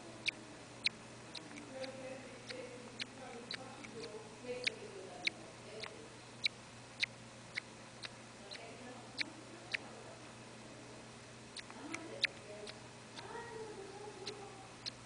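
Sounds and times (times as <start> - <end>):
faint sharp ticking: 0.0 - 9.9, 11.5 - 15.0
soft low background sounds: 0.0 - 15.0.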